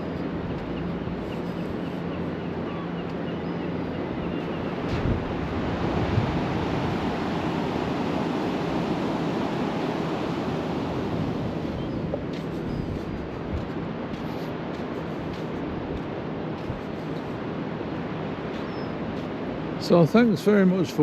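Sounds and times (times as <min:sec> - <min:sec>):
wind buffeting microphone: 0:00.0 - 0:19.8
waves washing onto beach: 0:00.0 - 0:21.0.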